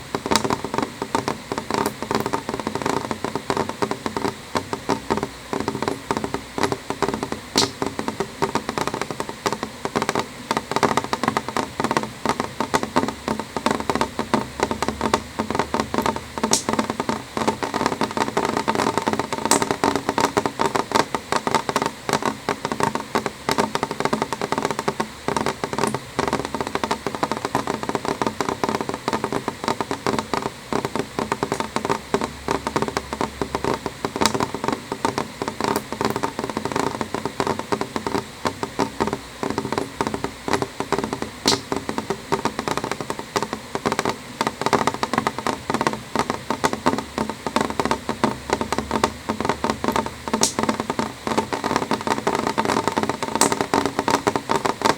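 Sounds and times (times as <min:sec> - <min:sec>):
rain tapping on window glass: 0:00.0 - 0:54.9.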